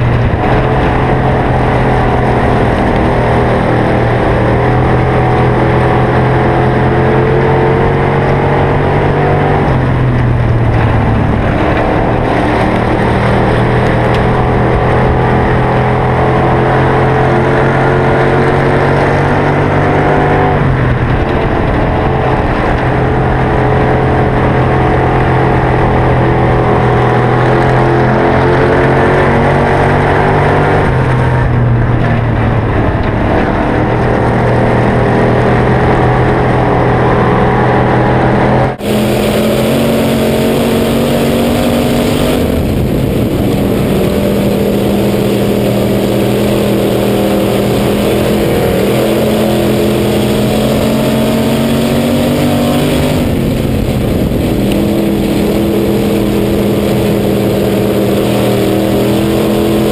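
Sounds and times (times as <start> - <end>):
heavy wind noise: 0.0 - 59.9
race car engine running hard: 0.0 - 59.9.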